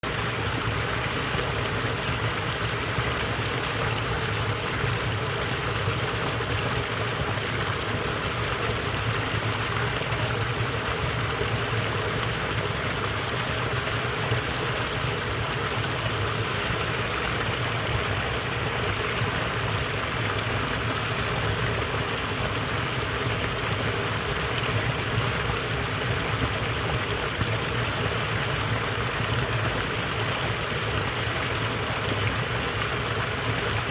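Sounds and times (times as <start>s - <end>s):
small waterfall splashing: 0.0s - 33.9s.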